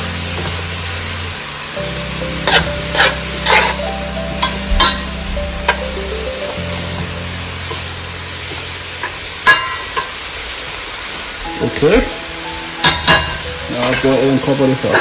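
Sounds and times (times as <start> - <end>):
vegetables sizzling: 0.0 - 15.0.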